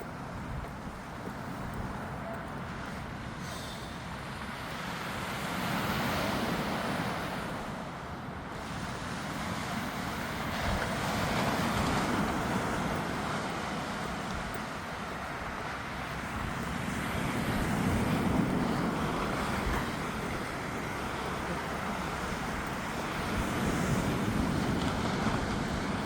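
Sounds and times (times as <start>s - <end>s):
wind buffeting microphone: 0.0s - 3.4s, 4.0s - 26.0s
sea surf washing on beach: 0.0s - 26.0s.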